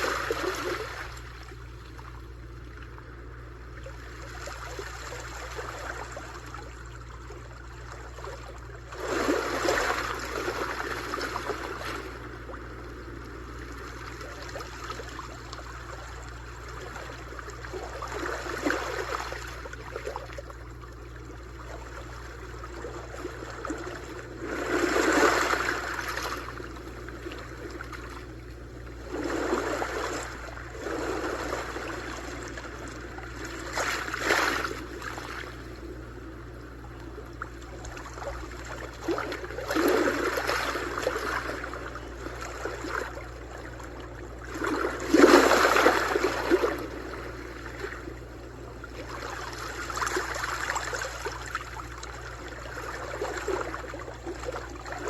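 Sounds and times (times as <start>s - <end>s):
sea waves washing on shore: 8.8s - 20.8s, 21.5s - 55.0s.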